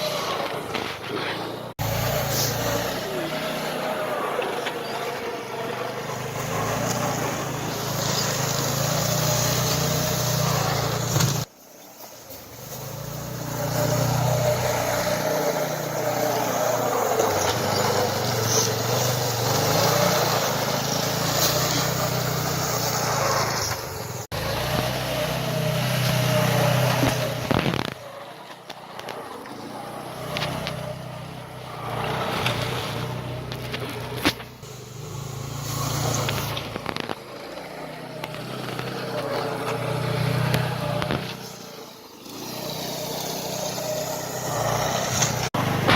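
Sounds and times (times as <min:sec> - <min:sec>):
snowmobile engine revving: 0:00.0 - 0:11.5, 0:12.2 - 0:45.9.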